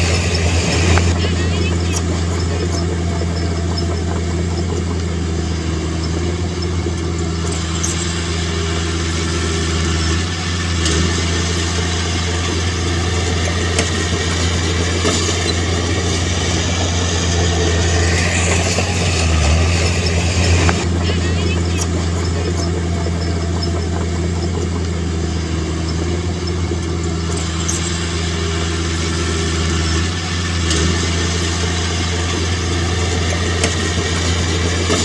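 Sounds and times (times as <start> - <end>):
diesel engine of earthmoving equipment: 0.0 - 35.0.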